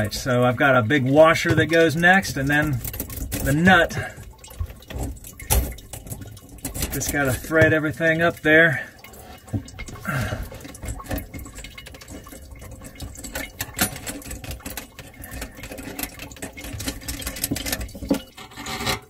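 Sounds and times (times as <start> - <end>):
hoses and fittings rubbing: 0.0 - 19.0
nut threading clicks and scrapes: 1.4 - 7.8, 9.0 - 19.0.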